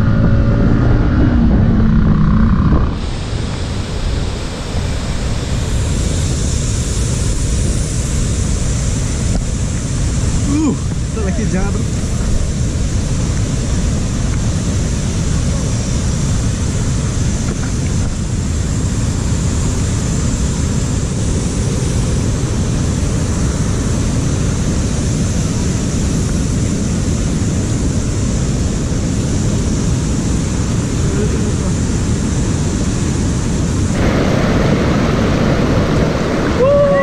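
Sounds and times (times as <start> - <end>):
motorcycle road noise: 0.0 - 37.0
wind rush on microphone: 0.0 - 37.0.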